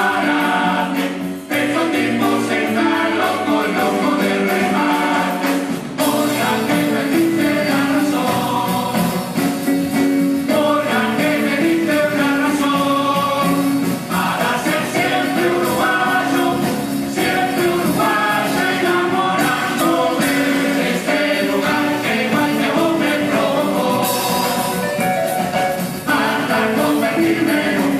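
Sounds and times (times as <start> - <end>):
chorus singing: 0.0 - 27.9
music: 0.0 - 27.9.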